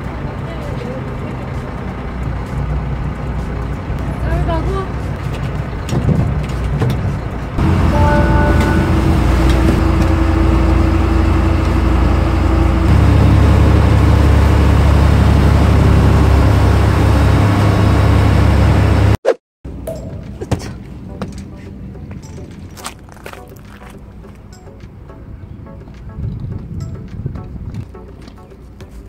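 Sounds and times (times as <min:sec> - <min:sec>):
boat engine droning: 0:00.0 - 0:28.8.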